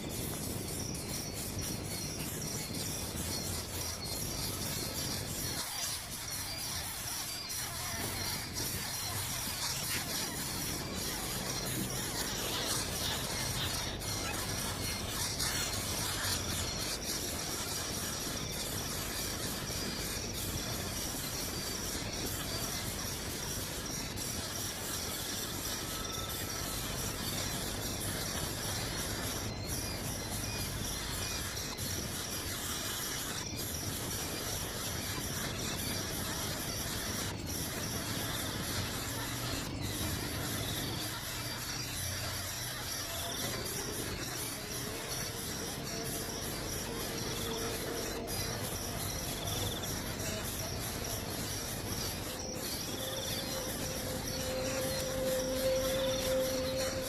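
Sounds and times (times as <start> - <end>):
faint bird chirps: 0.0 - 57.0
insect chorus: 0.0 - 57.0.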